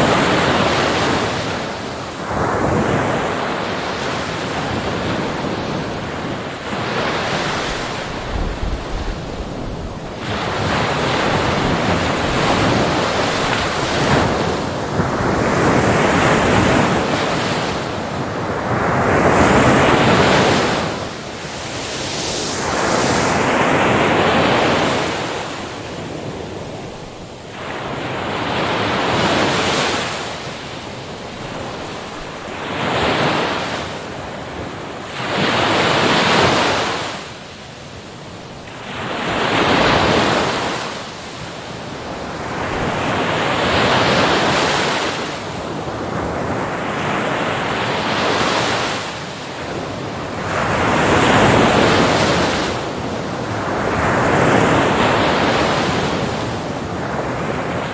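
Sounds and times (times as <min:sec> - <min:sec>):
ocean waves breaking on beach: 0:00.0 - 0:57.9
wind on microphone: 0:00.0 - 0:57.9.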